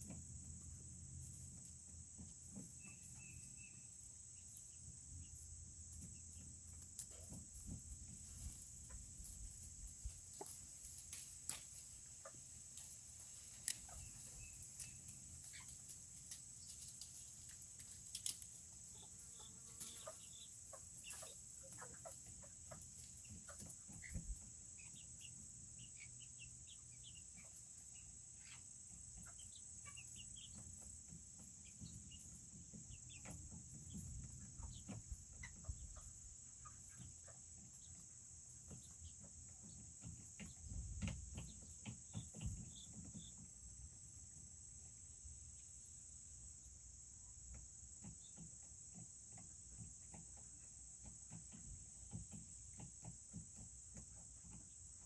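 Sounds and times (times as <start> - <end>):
chickens clucking and peeping: 0.0 - 55.0.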